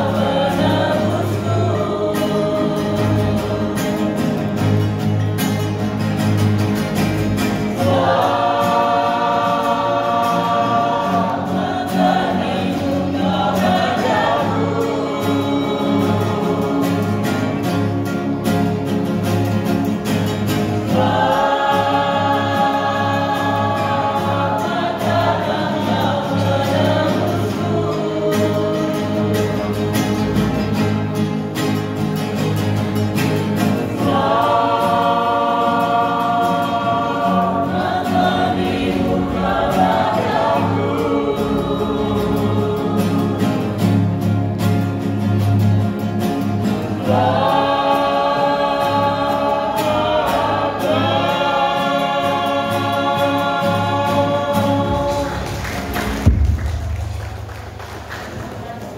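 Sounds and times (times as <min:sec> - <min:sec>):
choir singing gospel song: 0:00.0 - 0:58.9.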